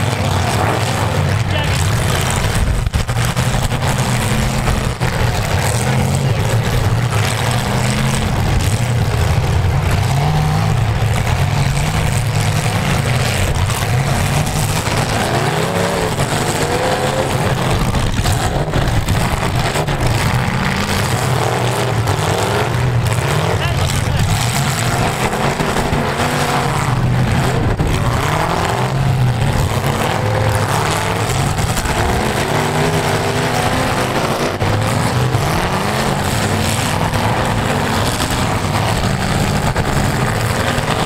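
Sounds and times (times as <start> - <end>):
car engines revving: 0.0 - 41.0
noisy din: 0.0 - 41.0.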